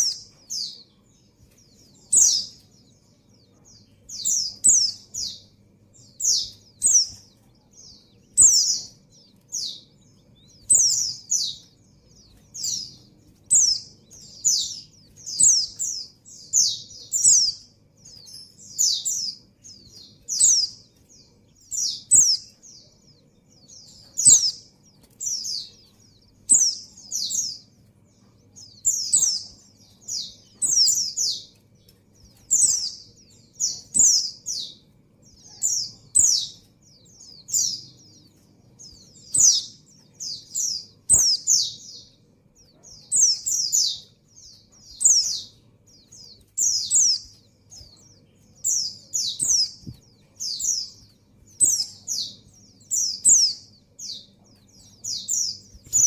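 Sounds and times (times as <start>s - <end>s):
bird high chirps: 0.0s - 56.0s.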